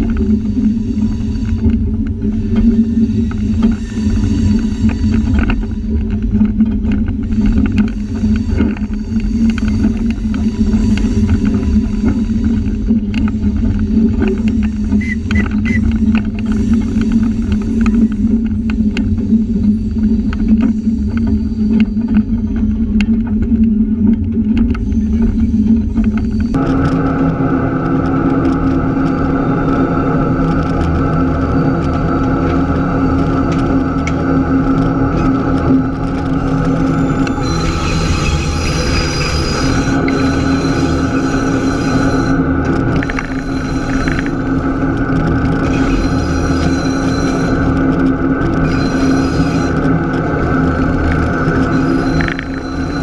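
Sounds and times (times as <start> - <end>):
diesel locomotive drone: 0.0 - 53.0
train wheels clicking: 0.0 - 53.0.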